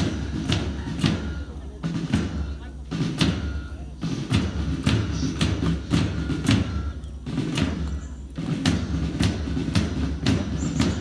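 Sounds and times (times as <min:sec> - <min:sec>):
drums beating a march rhythm: 0:00.0 - 0:11.0.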